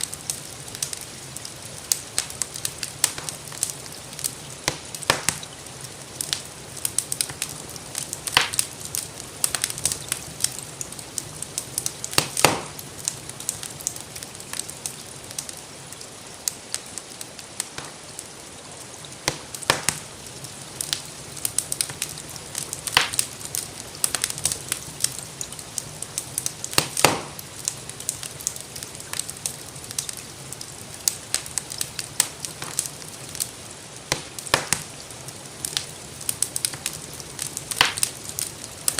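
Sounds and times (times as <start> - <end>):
gentle rain hiss: 0.0 - 38.9
wood fire crackling: 0.0 - 38.9.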